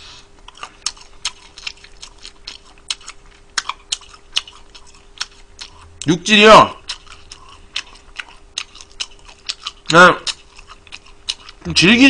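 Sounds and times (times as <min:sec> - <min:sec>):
chewing with mouth clicks and smacks: 0:00.4 - 0:06.1, 0:06.7 - 0:11.7.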